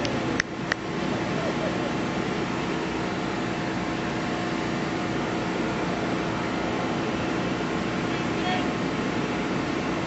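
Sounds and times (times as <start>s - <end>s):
faint constant hum: 0.0s - 10.0s.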